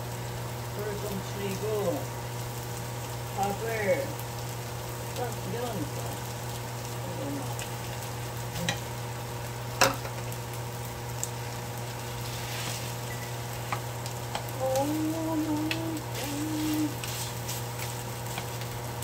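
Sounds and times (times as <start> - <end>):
rice sizzling in a frying pan: 0.0 - 19.0.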